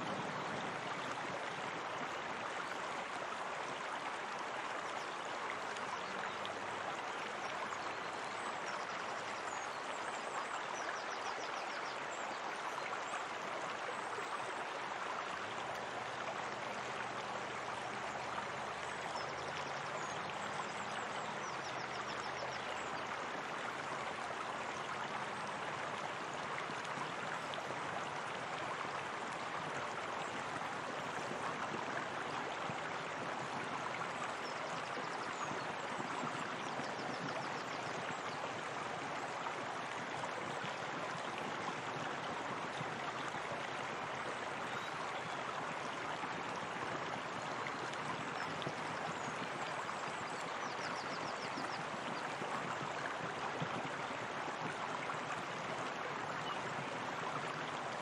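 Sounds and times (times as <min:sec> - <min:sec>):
small waterfall into a pool: 0:00.0 - 0:58.0.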